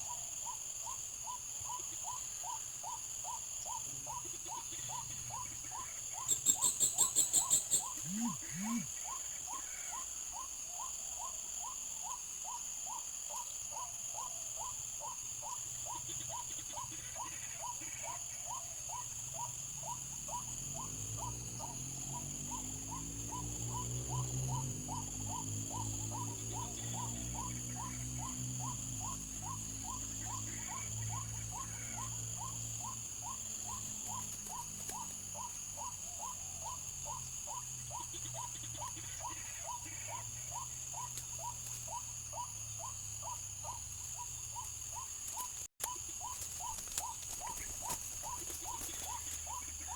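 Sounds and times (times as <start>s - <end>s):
high insect-like whine: 0.0s - 49.9s.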